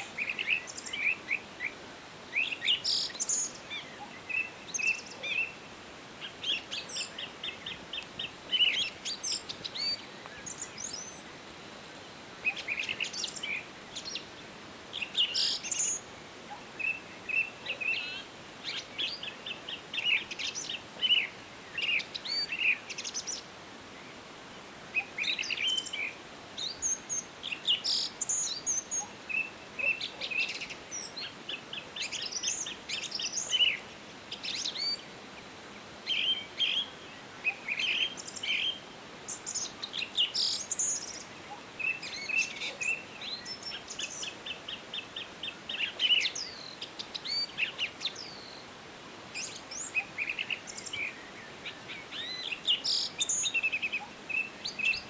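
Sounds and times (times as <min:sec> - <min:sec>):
faint steady background hiss: 0:00.0 - 0:55.0
songbirds chirping and trilling: 0:00.0 - 0:55.0.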